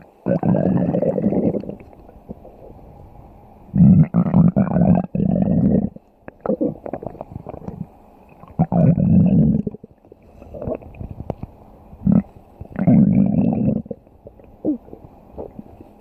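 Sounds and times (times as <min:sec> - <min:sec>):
stomach growling: 0:00.0 - 0:02.9, 0:03.7 - 0:16.0.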